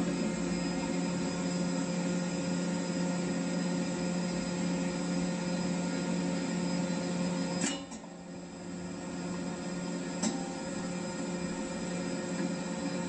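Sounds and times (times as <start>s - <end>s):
gas turbine machinery humming: 0.0s - 13.0s.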